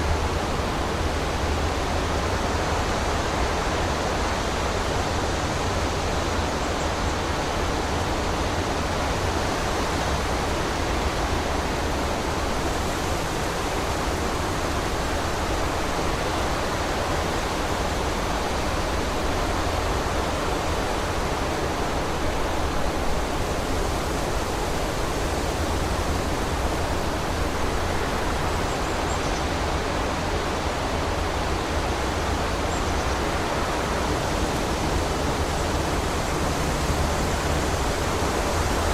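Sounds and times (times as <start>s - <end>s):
strong wind through trees: 0.0s - 38.9s.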